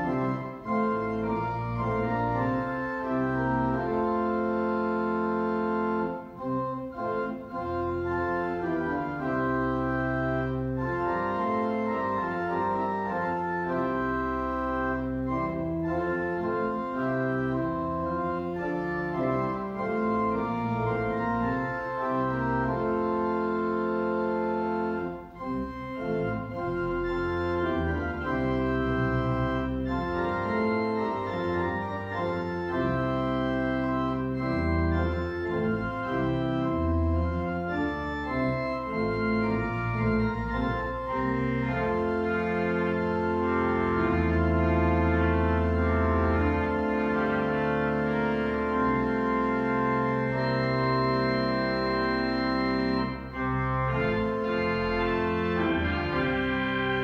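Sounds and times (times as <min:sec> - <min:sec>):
church organ playing a hymn: 0:00.0 - 0:57.0.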